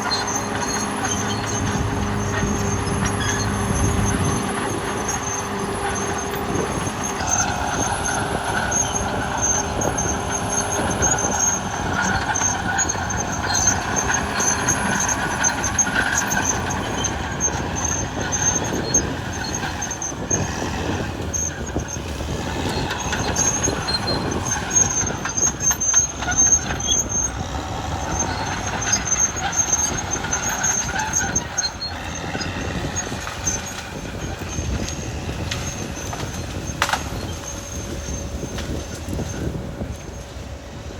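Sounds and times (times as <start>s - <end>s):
diesel engine under load: 0.0s - 40.9s
steel tracks clanking and squealing: 0.0s - 40.9s.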